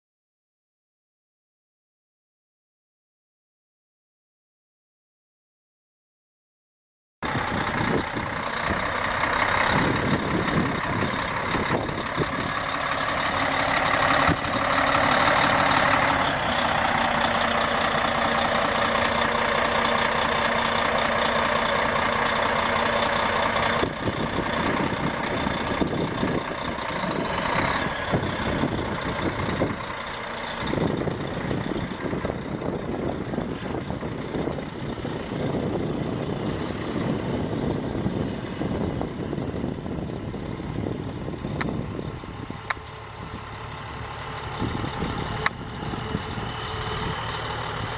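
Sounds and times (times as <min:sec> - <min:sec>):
truck diesel engine running: 0:07.2 - 0:47.9.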